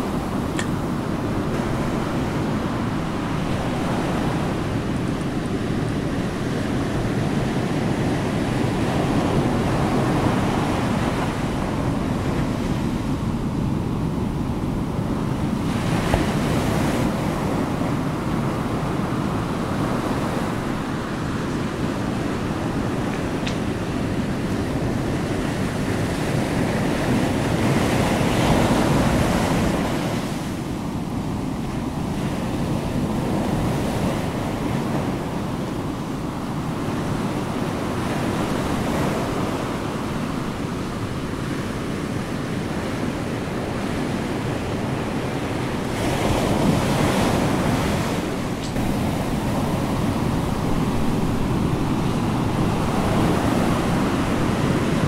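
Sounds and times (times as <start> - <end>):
ocean surf rushing: 0.0 - 55.0.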